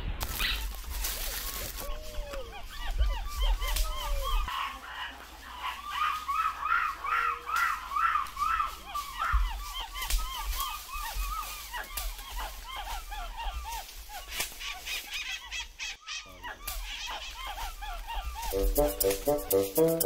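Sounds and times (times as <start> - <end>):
forest birds calling: 0.3 - 20.0.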